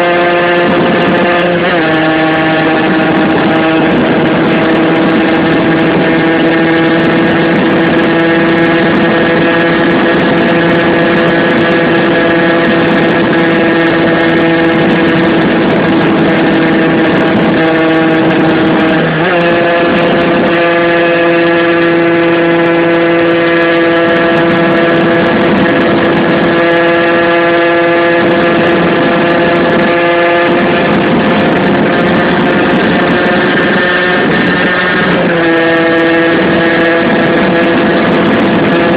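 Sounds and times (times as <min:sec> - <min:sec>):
moped engine running at high revs: 0:00.0 - 0:38.9.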